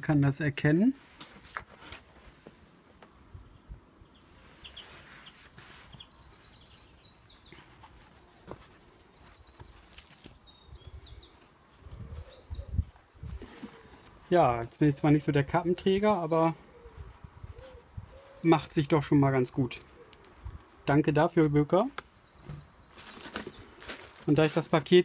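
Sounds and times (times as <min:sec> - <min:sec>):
small birds chirping: 0:02.0 - 0:02.6, 0:03.4 - 0:25.0.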